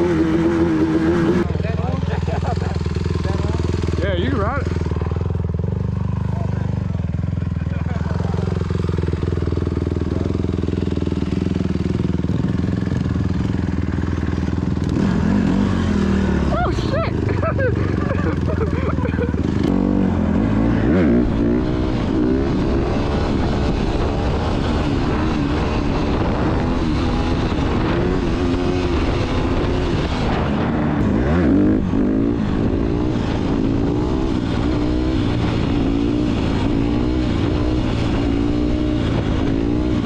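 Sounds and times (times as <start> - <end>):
off-road engine revving: 0.0 - 40.0.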